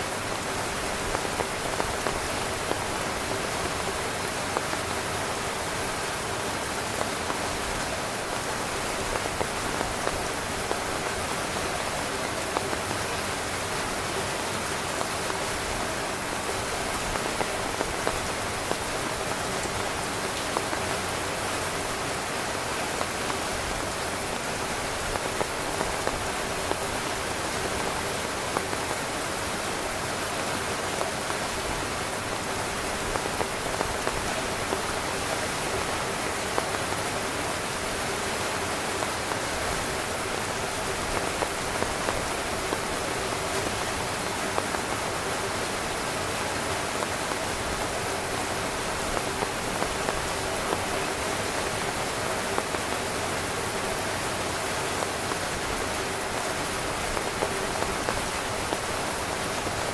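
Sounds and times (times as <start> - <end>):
heavy rain drumming on a tent: 0.0 - 59.9.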